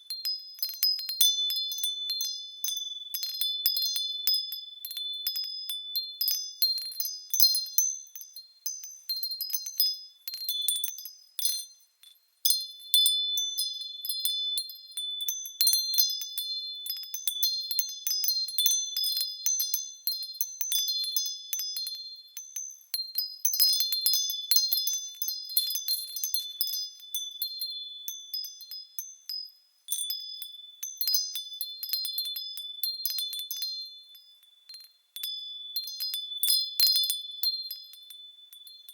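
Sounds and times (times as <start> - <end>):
wind chimes tinkling: 0.0 - 38.9.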